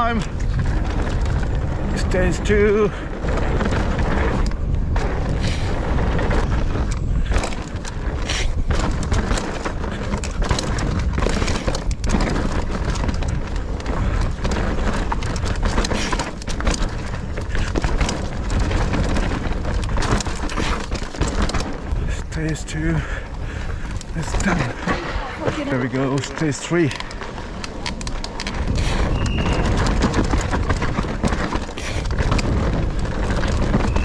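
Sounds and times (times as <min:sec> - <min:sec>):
bike knocks and rattles: 0:00.0 - 0:34.0
tyres on dirt: 0:00.0 - 0:34.0
wind buffeting microphone: 0:00.0 - 0:34.0.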